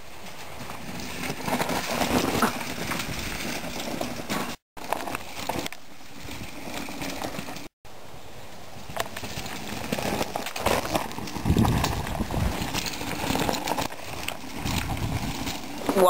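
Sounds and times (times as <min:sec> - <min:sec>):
bike tyres crunching over rocks: 0:00.0 - 0:07.7, 0:08.8 - 0:16.0
bikes knocking and clattering: 0:00.0 - 0:07.7, 0:08.8 - 0:16.0.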